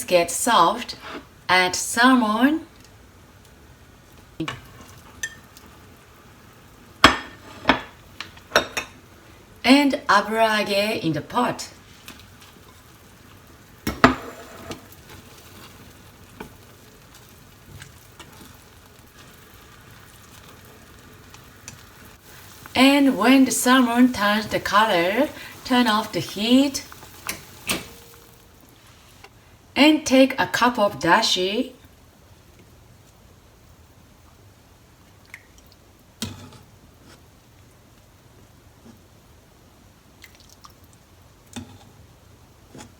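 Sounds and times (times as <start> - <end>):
soup simmering and bubbling: 2.7 - 9.6, 11.8 - 29.4, 31.9 - 42.9.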